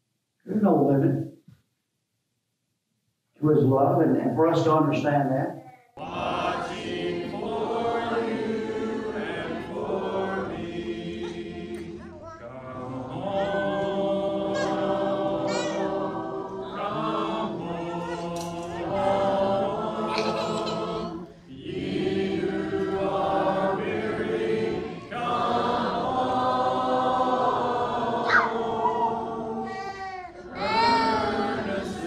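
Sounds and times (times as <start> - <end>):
unaccompanied hymn singing: 6.0 - 32.0.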